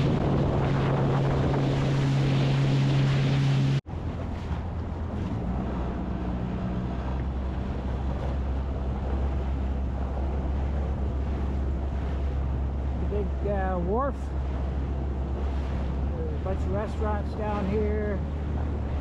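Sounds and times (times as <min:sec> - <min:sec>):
water and wind noise: 0:00.0 - 0:19.0
watercraft engine running: 0:00.0 - 0:19.0.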